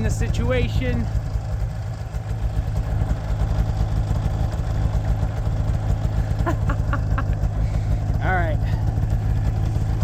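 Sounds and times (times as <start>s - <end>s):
snowmobile engine idling: 0.0s - 10.0s.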